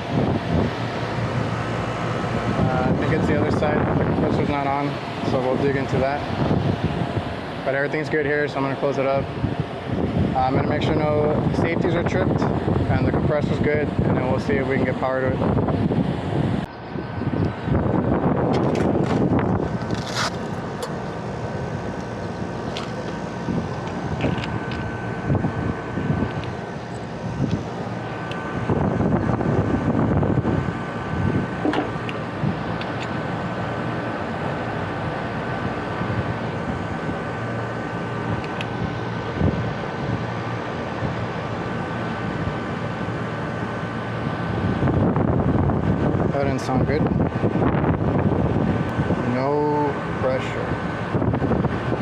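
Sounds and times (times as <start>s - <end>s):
wind buffeting microphone: 0.0s - 49.4s, 50.0s - 52.0s
air conditioner whine: 0.0s - 52.0s.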